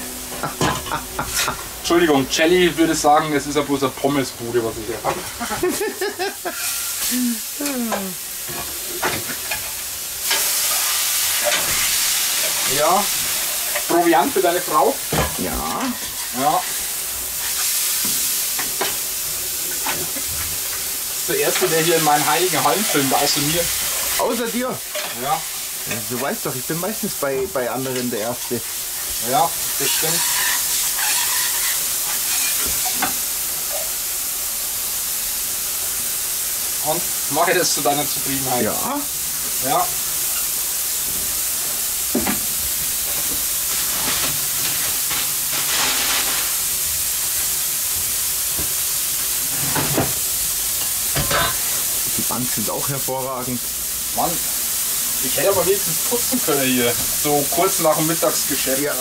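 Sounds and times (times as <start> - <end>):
burger patties sizzling on griddle: 0.0 - 59.0.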